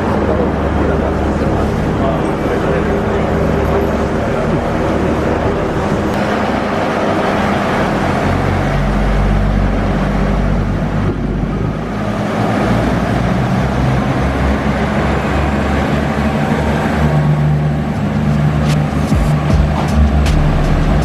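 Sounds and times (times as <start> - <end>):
railcar engine drone: 0.0 - 21.0
wheels rumbling on track: 0.0 - 21.0.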